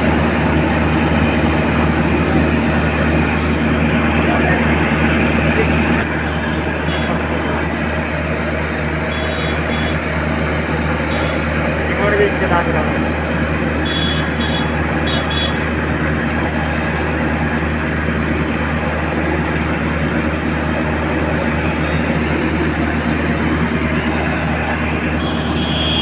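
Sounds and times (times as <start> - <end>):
heavy crane engine running: 0.0 - 26.0.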